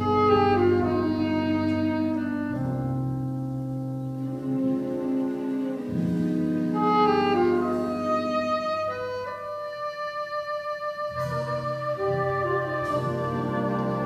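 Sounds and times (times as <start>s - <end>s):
jazz big band playing chords: 0.0s - 14.0s.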